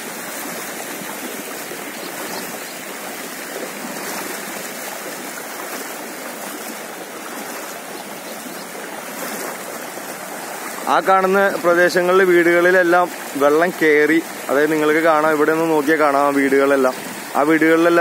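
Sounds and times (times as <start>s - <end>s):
floodwater rushing across road: 0.0s - 18.0s.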